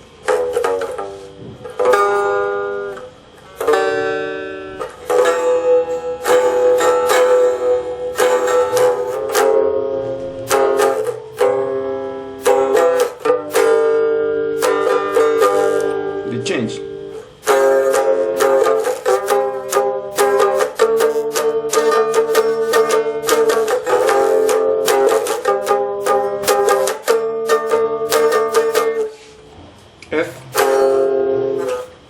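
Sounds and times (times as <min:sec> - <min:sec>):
box guitar strummed chords: 0:00.0 - 0:32.0.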